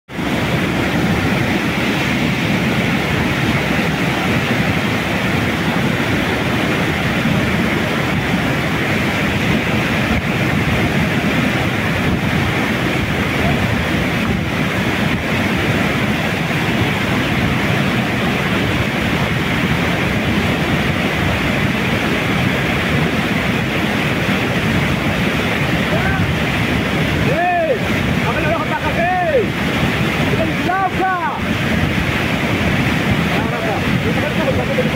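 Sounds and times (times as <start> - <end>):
river rapids rushing over rocks: 0.1 - 34.9.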